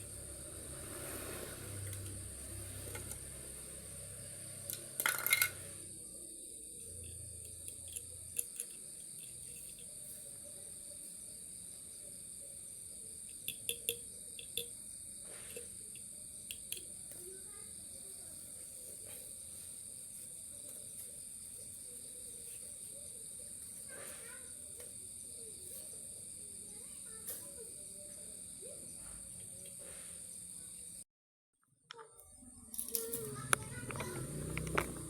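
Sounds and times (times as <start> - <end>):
insects chirring: 0.0 - 31.0, 31.9 - 35.0.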